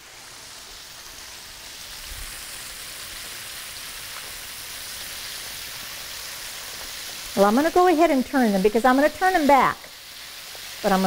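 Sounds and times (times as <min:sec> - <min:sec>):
chicken frying sizzle: 0:00.0 - 0:11.0.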